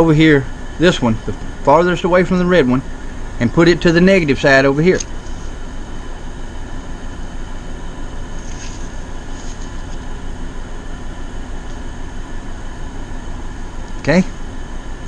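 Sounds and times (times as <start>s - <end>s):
air conditioners humming: 0.0s - 15.0s.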